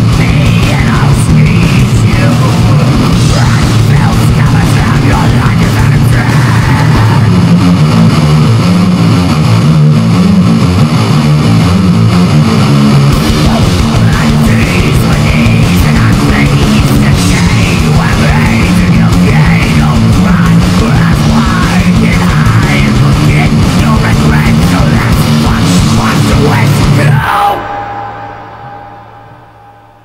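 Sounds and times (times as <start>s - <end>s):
distorted heavy metal music: 0.0s - 30.0s.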